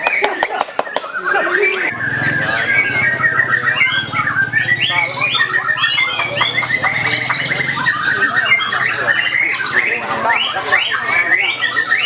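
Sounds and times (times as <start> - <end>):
lovebirds chattering trills: 0.0 - 12.0.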